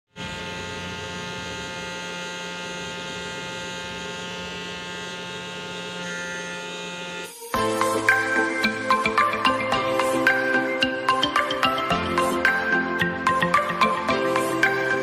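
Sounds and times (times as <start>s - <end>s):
small electric motor whining: 0.1s - 15.0s.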